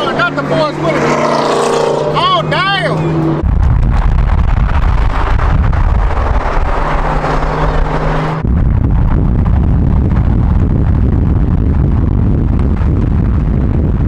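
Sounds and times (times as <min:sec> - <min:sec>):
racing car engines running hard: 0:00.0 - 0:14.0.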